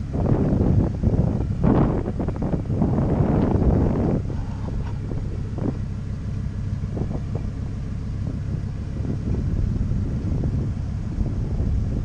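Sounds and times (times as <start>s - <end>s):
engine idling: 0.0s - 12.0s
wind buffeting microphone: 0.0s - 12.0s.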